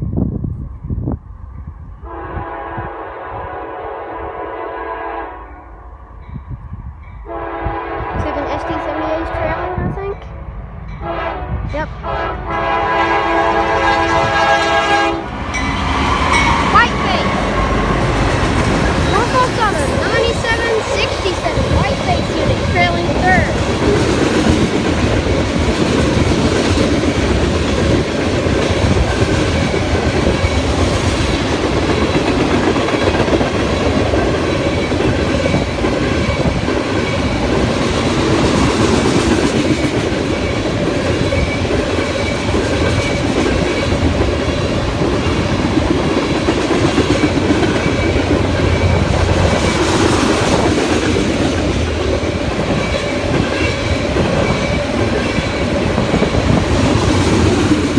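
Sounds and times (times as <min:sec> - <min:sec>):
freight train wheels on rail: 0:00.0 - 0:57.9.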